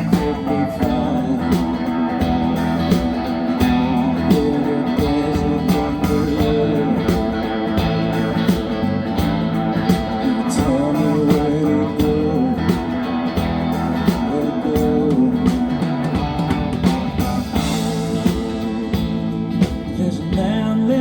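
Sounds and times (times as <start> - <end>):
guitar melody line: 0.0 - 21.0
live band music: 0.0 - 21.0.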